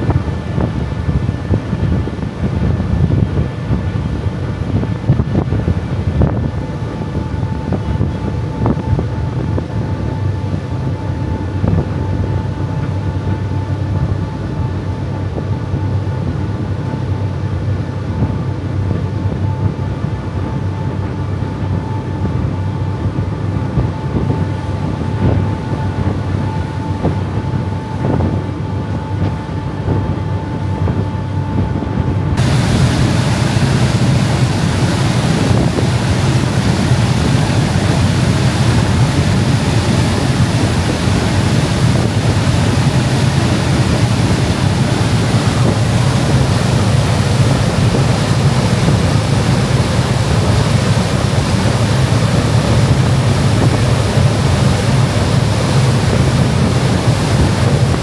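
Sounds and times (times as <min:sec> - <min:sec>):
boat engines droning with whine: 0:00.0 - 0:58.0
churning wake water: 0:00.0 - 0:58.0
wind on microphone: 0:00.0 - 0:58.0.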